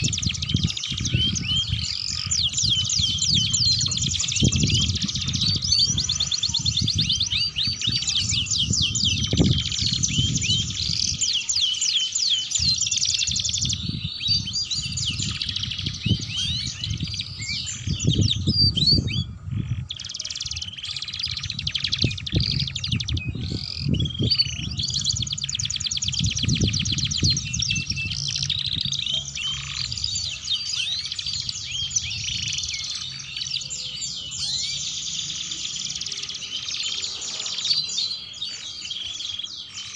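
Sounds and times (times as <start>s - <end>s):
canaries trilling: 0.0s - 39.9s.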